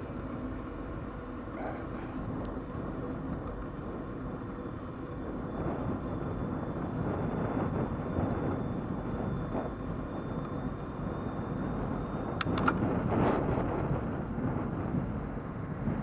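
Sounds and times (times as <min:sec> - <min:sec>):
rolling noise of e-bike: 0:00.0 - 0:16.0
wind buffeting microphone: 0:00.0 - 0:16.0.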